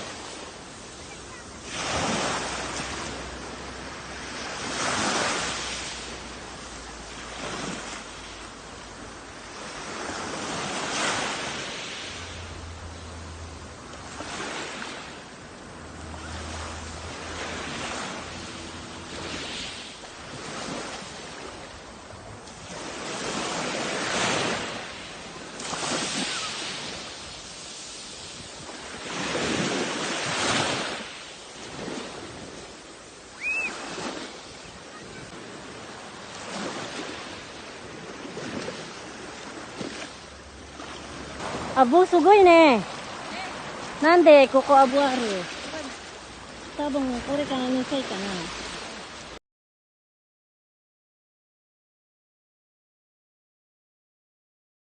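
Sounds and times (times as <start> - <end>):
sea waves breaking on shore: 0.0 - 49.4.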